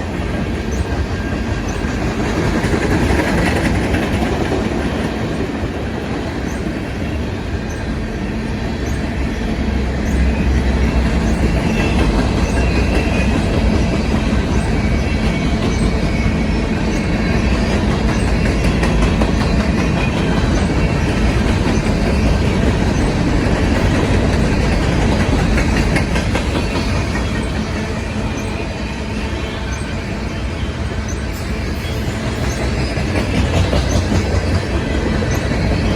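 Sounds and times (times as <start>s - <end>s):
wheels clicking over rail joints: 0.0s - 28.6s, 31.0s - 35.9s.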